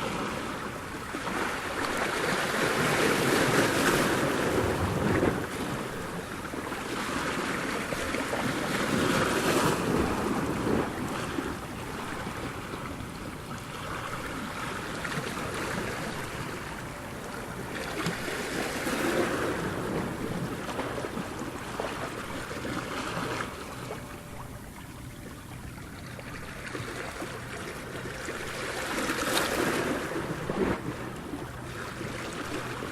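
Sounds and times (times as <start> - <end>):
ocean waves breaking: 0.0 - 32.9.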